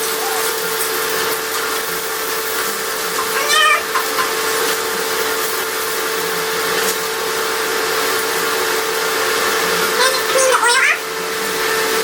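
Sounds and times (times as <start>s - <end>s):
electric appliance motor whirring: 0.0s - 12.0s.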